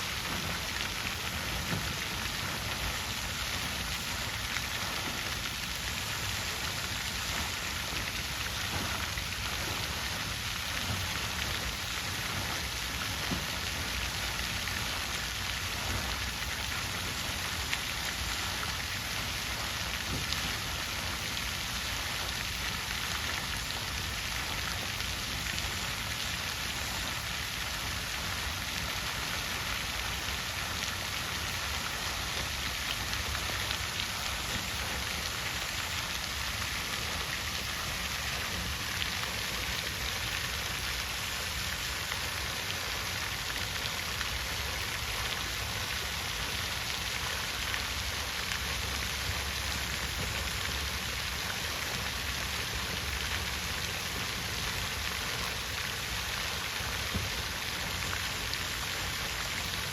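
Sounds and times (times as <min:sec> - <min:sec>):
water fountain splashing: 0:00.0 - 0:59.9.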